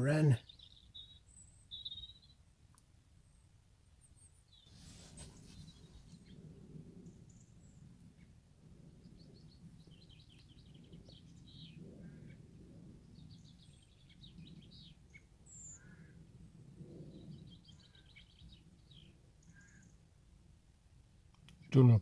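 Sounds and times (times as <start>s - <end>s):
faint songbird song: 0.0s - 22.0s.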